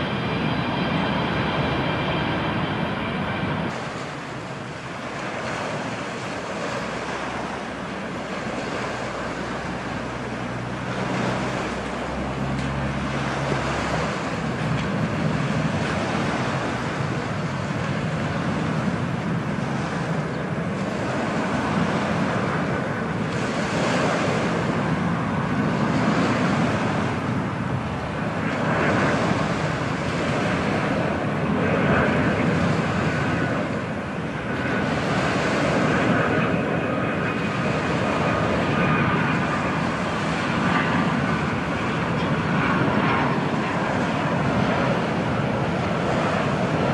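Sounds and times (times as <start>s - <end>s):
jet engines rushing: 0.0s - 46.9s
wind buffeting microphone: 0.0s - 46.9s.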